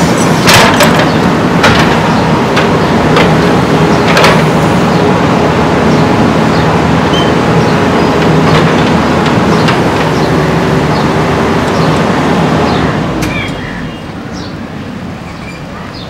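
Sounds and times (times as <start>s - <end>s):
diesel engine running hard: 0.0s - 16.0s.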